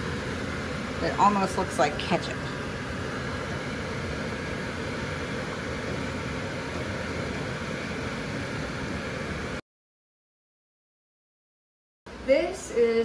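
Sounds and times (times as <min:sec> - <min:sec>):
steady fan rushing noise: 0:00.0 - 0:09.6, 0:12.1 - 0:13.0.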